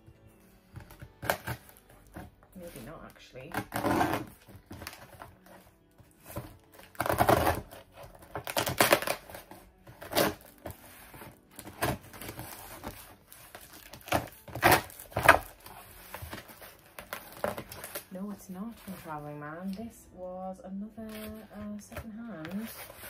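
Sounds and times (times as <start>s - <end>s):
packaging rustling and tearing: 0.7s - 19.8s, 21.1s - 23.0s.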